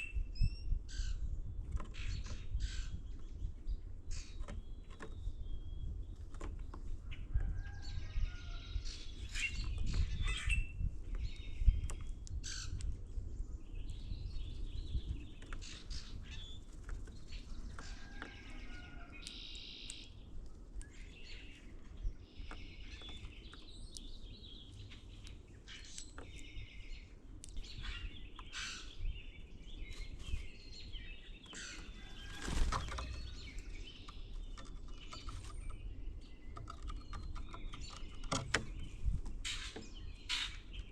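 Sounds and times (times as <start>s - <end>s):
low wind rumble: 0.0s - 40.9s
songbirds chirping: 0.0s - 40.9s.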